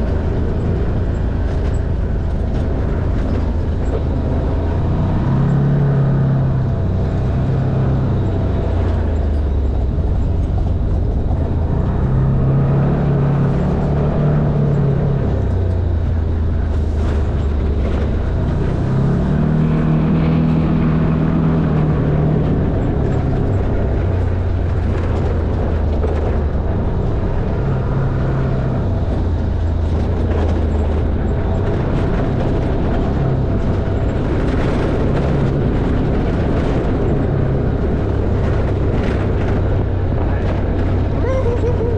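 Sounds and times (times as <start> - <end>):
off-road vehicle engine revving: 0.0 - 41.9.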